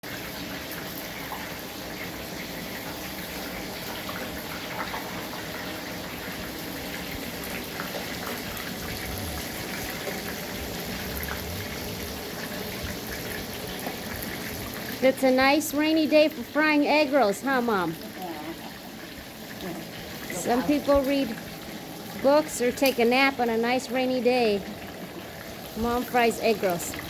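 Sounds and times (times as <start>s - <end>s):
steady rain: 0.0s - 27.0s
rain patters: 0.1s - 27.0s.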